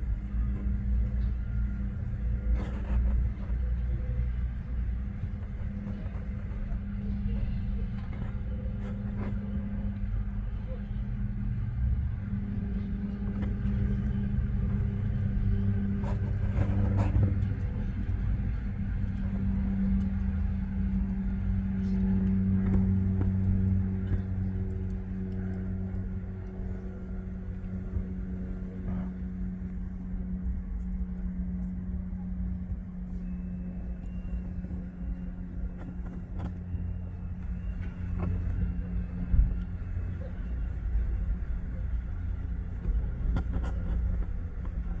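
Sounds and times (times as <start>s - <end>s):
engine hum: 0.0s - 45.0s
low rumble: 0.0s - 45.0s.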